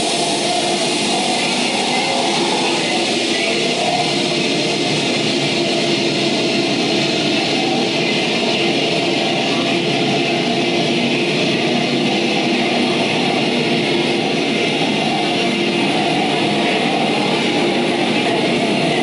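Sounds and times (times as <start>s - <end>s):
electronic noise wash: 0.0s - 19.0s.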